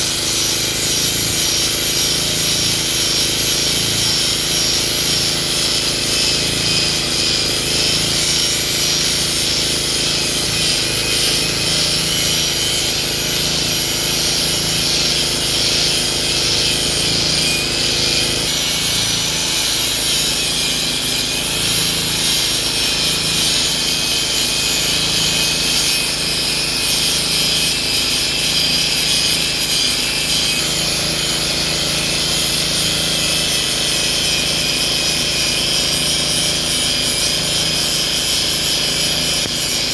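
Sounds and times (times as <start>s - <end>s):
wood being rasped and torn: 0.0s - 39.9s.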